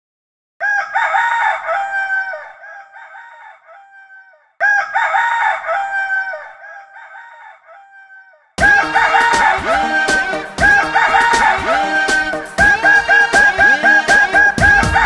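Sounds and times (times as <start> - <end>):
rooster crowing: 0.6 - 15.0.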